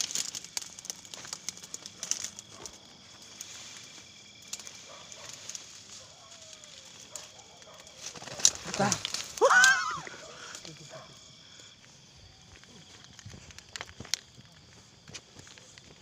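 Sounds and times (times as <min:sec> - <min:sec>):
leaves and twigs rustling: 0:00.0 - 0:16.0.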